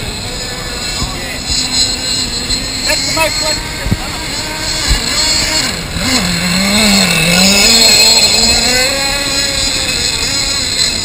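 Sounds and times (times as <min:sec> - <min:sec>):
model boat engine running: 0:00.0 - 0:11.0.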